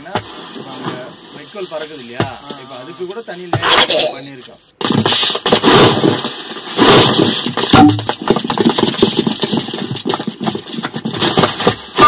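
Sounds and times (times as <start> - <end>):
rapid crackle and rustle of hits: 0.0 - 3.5, 4.8 - 12.0.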